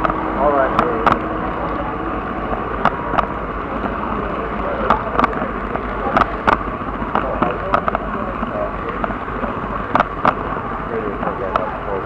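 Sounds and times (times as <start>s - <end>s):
model train rolling rumble: 0.0s - 12.0s.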